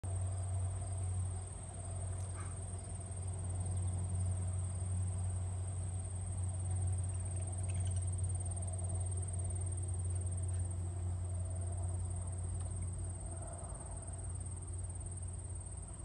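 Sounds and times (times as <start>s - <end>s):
insects trilling: 0.2s - 16.0s.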